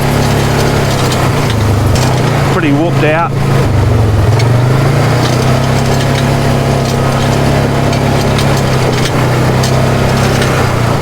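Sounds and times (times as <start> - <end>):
engine running at low speed: 0.0 - 11.0
vehicle clicks and rattles: 0.0 - 11.0.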